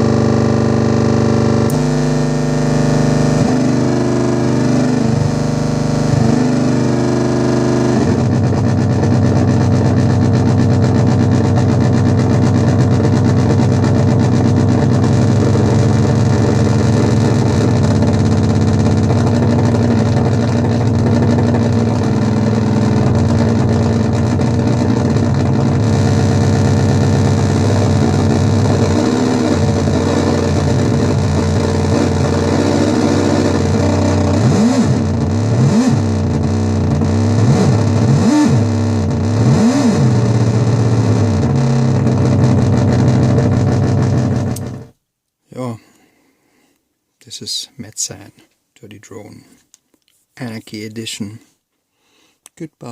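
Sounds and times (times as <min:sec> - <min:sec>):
synthesizer drone: 0:00.0 - 0:44.8.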